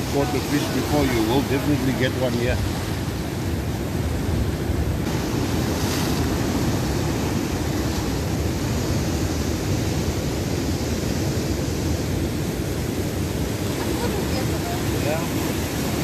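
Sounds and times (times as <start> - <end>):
surf breaking over rocks: 0.0 - 16.0.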